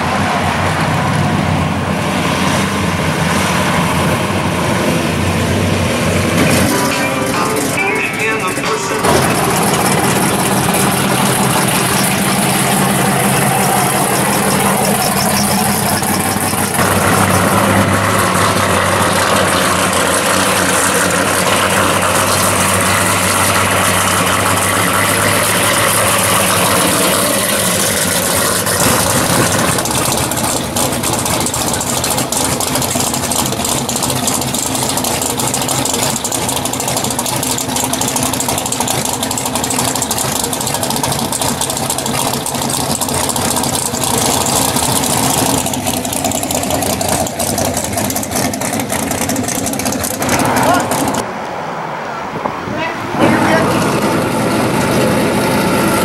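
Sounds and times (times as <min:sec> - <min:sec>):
muscle car engines idling loudly: 0:00.0 - 0:51.3.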